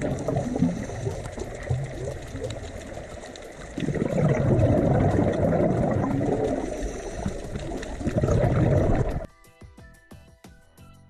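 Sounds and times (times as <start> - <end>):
underwater bubbles gurgling: 0.0 - 9.3.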